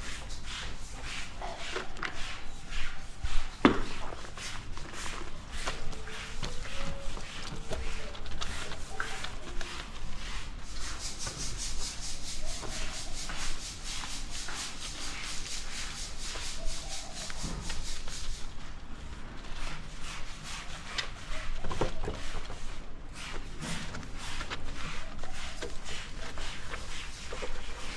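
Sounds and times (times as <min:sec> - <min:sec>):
light knocks and scrapes: 0:00.0 - 0:27.9
rubbing strokes scrubbing motorcycle: 0:00.0 - 0:27.9.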